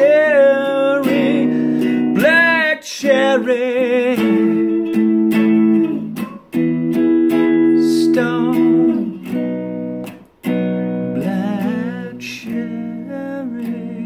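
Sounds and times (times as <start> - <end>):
man singing: 0.0 - 6.4, 7.3 - 9.7, 10.8 - 14.0
electric guitar chords: 0.0 - 14.0.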